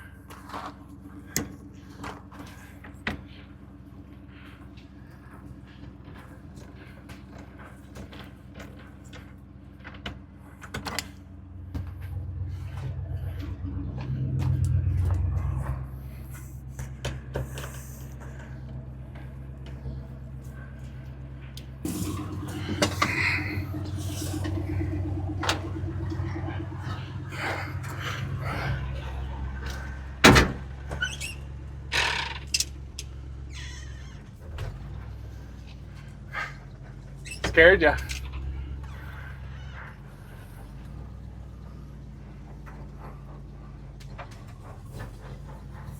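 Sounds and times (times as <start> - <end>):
steady low hum: 0.0 - 45.9
truck engine running: 0.0 - 45.9.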